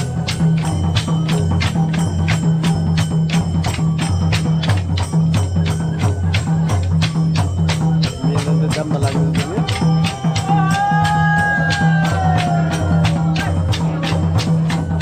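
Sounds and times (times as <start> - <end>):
barrel drum beating: 0.0 - 15.0
sharp jingling strikes: 0.0 - 15.0.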